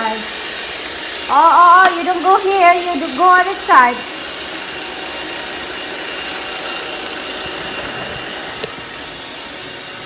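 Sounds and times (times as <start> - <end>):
robot vacuum whirring: 0.0 - 10.0.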